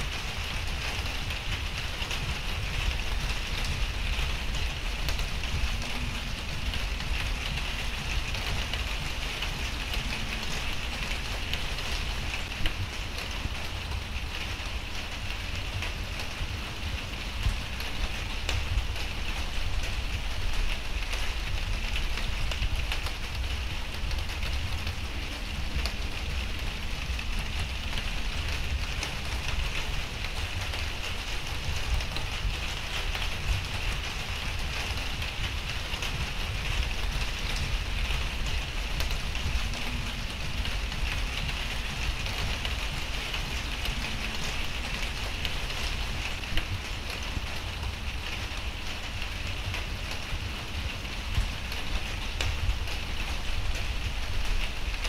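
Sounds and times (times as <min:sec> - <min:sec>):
steady low rumble: 0:00.0 - 0:55.0
steady rain hiss: 0:00.0 - 0:55.0.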